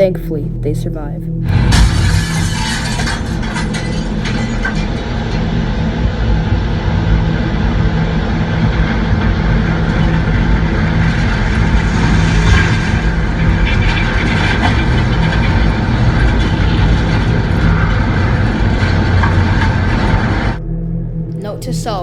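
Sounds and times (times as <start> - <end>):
tornado winds roaring: 1.5 - 20.6.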